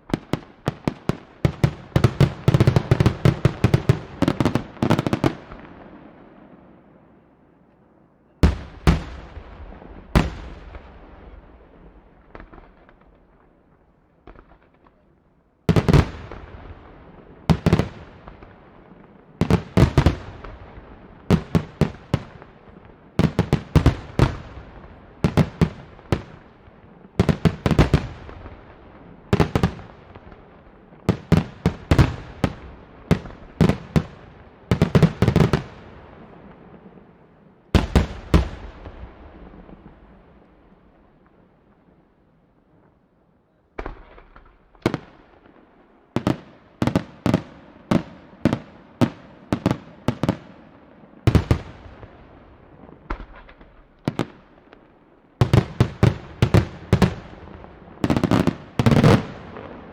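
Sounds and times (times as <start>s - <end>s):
fireworks bangs echoing: 0.0s - 7.2s, 8.4s - 15.1s, 15.7s - 41.9s, 43.8s - 59.9s.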